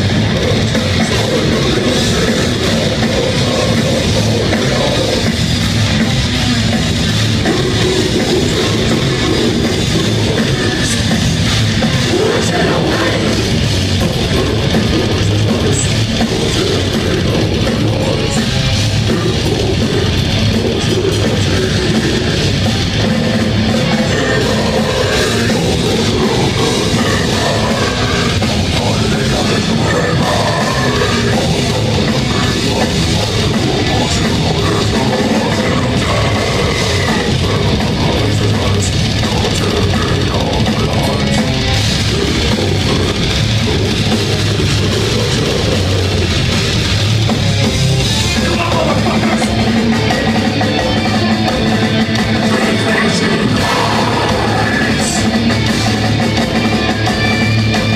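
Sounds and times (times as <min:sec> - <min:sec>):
bass guitar: 0:00.0 - 0:57.9
distorted electric guitars: 0:00.0 - 0:57.9
drum kit: 0:00.0 - 0:57.9.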